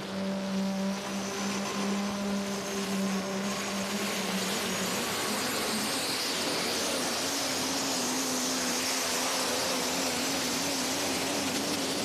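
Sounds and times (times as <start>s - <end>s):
turbocharger whine: 0.0s - 12.0s.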